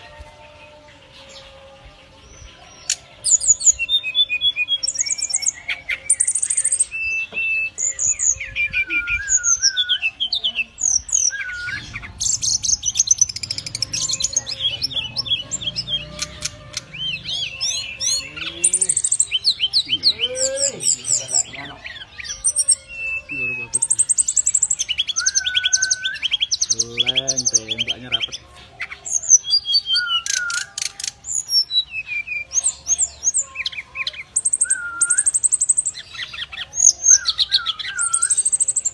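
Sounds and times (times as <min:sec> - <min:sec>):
bird singing whistled phrases: 0:03.3 - 0:14.8, 0:15.6 - 0:27.9, 0:29.2 - 0:38.9.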